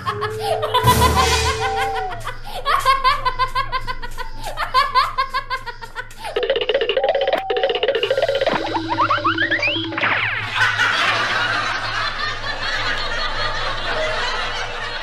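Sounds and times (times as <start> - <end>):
background music: 0.0 - 15.0
high-pitched laughter: 0.0 - 15.0.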